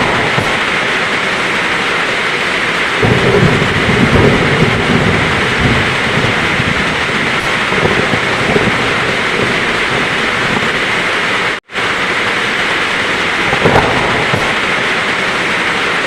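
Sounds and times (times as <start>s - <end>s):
heavy rain: 0.0s - 16.0s
thunder rumbling: 0.0s - 16.0s.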